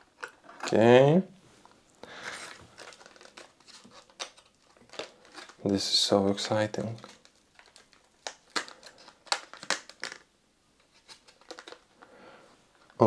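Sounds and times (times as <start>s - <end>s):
packaging crinkling: 1.6s - 12.1s.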